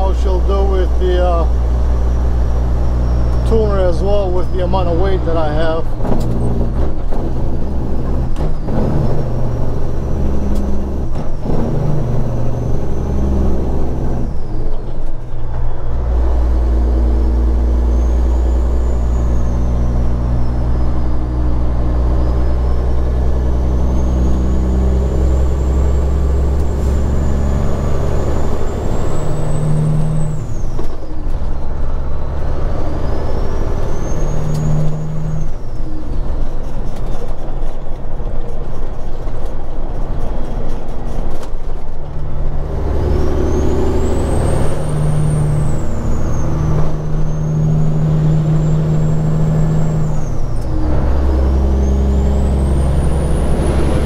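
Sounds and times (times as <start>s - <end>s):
diesel truck engine under load: 0.0s - 54.0s.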